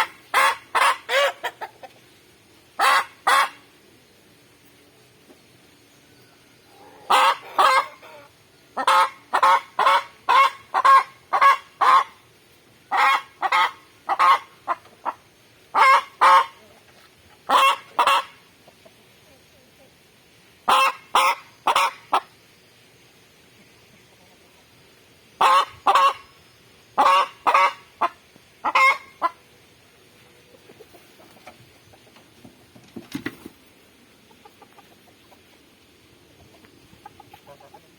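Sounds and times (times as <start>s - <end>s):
chicken clucking: 0.0s - 2.2s, 2.8s - 3.8s, 6.1s - 20.0s, 20.6s - 22.4s, 23.6s - 24.8s, 25.4s - 37.9s.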